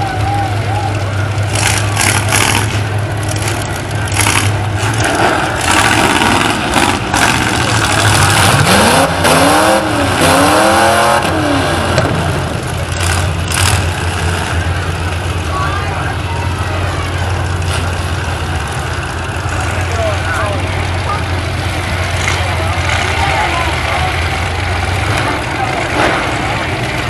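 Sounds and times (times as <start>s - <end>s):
engine revving: 0.0s - 27.0s
truck engines droning: 0.0s - 27.0s.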